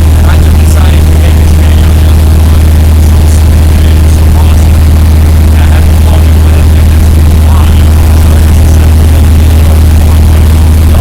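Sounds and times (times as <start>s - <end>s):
aircraft engine and propeller drone: 0.0s - 11.0s.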